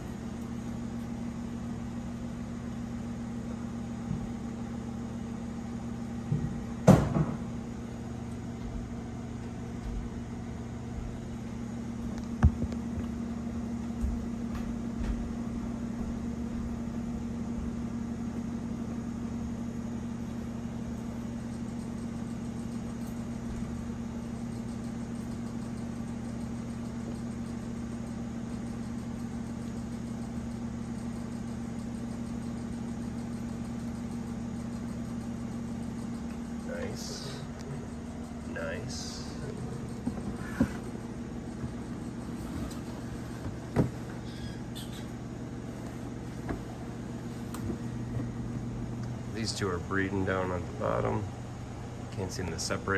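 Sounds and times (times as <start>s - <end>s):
low machine hum: 0.0s - 52.9s.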